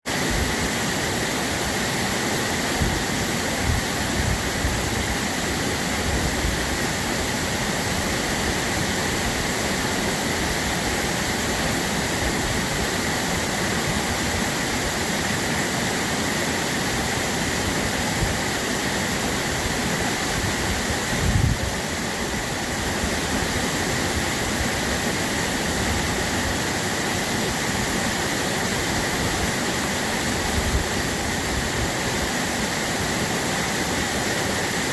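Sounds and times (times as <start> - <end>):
babbling stream: 0.1 - 34.9.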